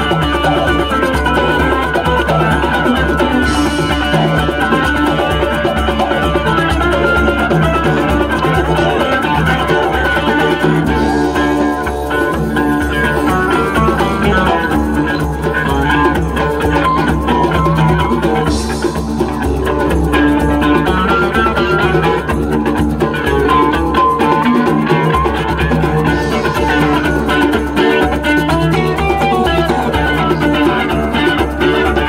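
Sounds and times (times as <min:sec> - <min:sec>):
didgeridoo drone: 0:00.0 - 0:32.0
djembe hand drum: 0:00.0 - 0:32.0
electric guitar: 0:00.0 - 0:32.0.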